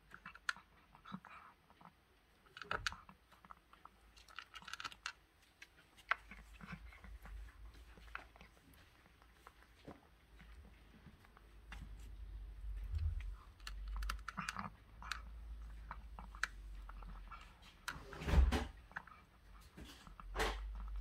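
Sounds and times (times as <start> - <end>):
cat crunching dry kibble: 0.0 - 21.0.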